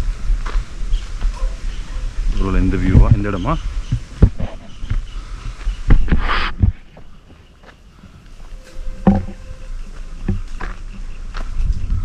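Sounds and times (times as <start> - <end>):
low rumble on microphone: 0.0 - 7.2, 8.0 - 12.0
footsteps on a trail: 0.0 - 12.0
rustle: 0.0 - 12.0.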